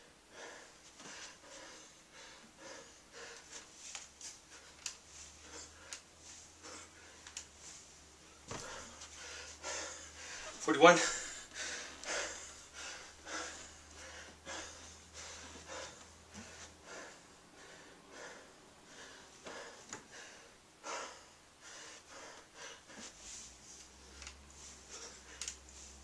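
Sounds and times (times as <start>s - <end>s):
man breathing hard: 0.0s - 26.0s.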